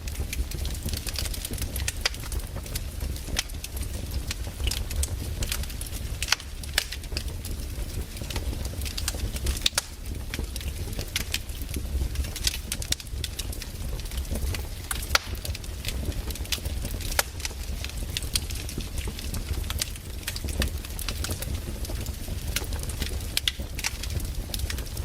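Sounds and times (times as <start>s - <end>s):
firewood crackling and popping: 0.0s - 25.0s
low rumble of fire: 0.0s - 25.0s.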